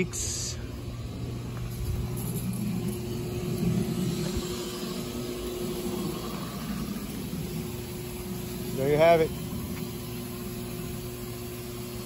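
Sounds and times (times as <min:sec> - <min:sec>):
lawn sprinklers spraying water: 0:00.0 - 0:12.0
steady low hum: 0:00.0 - 0:12.0.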